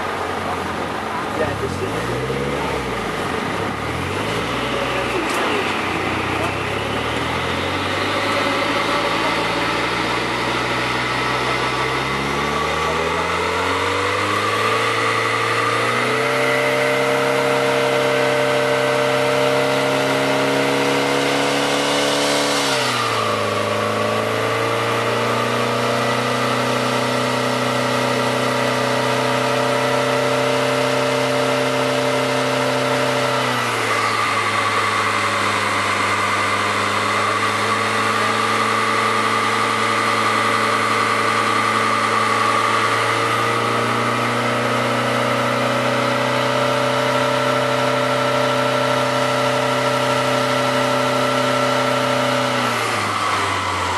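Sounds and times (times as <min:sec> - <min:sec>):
car engine revving on dyno: 0:00.0 - 0:53.9.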